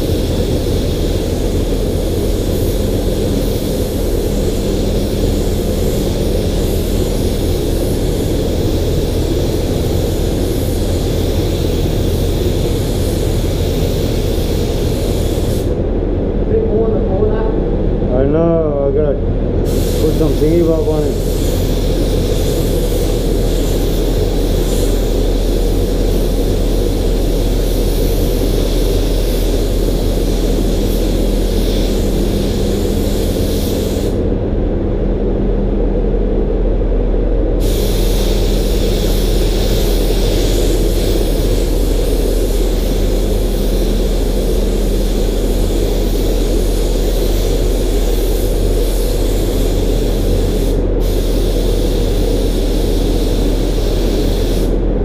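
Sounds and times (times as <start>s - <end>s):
spray gun hissing: 0.0s - 15.8s, 19.6s - 34.3s, 37.6s - 54.8s
steady low hum: 0.0s - 55.0s.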